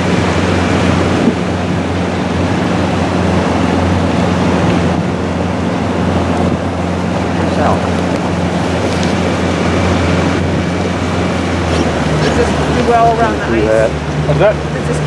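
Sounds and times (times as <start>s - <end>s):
outboard motor humming: 0.0s - 15.0s
water rushing: 0.0s - 15.0s
wind: 0.0s - 15.0s.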